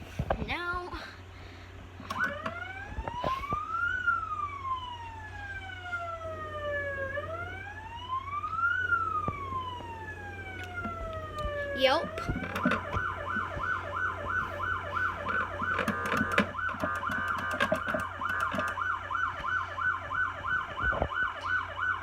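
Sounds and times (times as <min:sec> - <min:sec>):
electronic siren wailing: 0:02.1 - 0:22.0.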